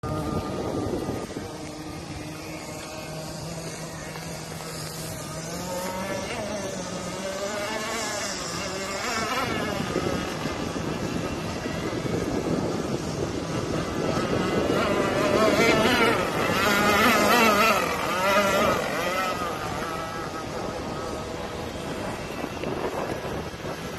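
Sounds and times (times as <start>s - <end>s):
model boat motor running: 0.0s - 23.9s.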